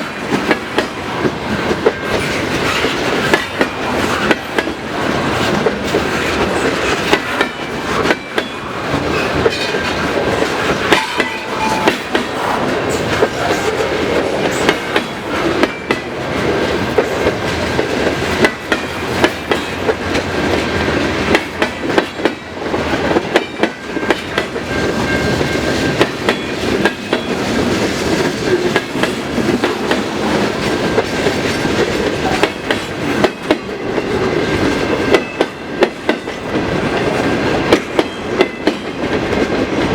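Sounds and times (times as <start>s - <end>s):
train rumble: 0.0s - 39.9s
train wheels clicking over rail joints: 0.0s - 39.9s.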